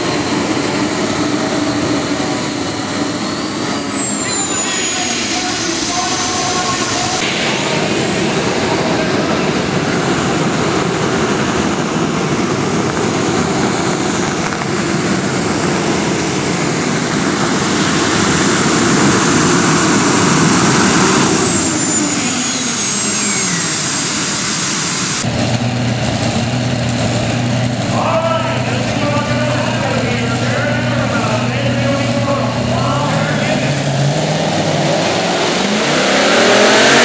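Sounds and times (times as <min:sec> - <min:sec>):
engine idling: 0:00.0 - 0:34.3
tractor engines roaring with whine: 0:00.0 - 0:37.0.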